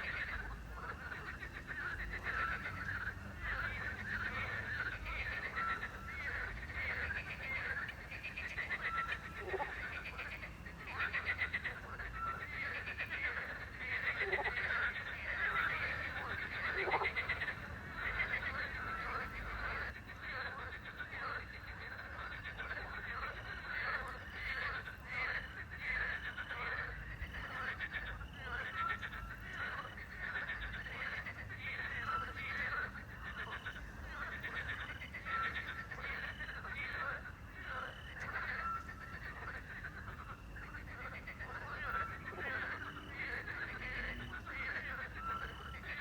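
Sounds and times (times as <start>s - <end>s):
frogs croaking: 0.0s - 46.0s.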